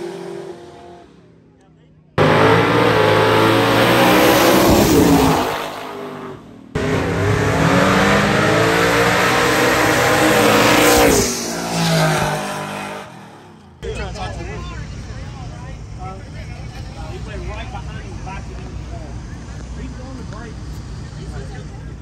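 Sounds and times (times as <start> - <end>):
drag race cars passing: 0.0 - 22.0.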